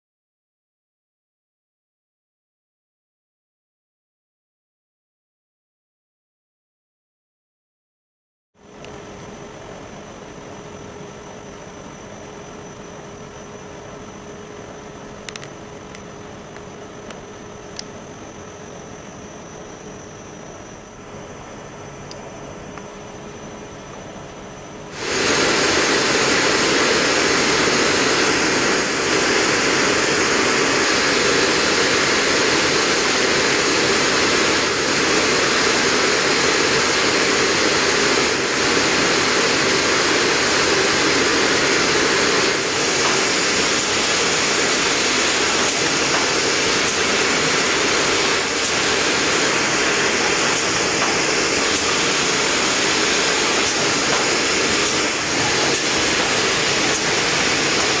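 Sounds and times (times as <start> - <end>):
machine running with rushing roar: 8.6 - 58.0.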